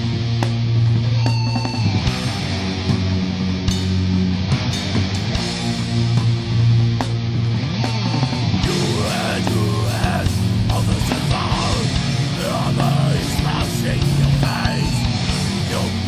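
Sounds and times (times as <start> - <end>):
drums: 0.0 - 16.0
electric guitars: 0.0 - 16.0.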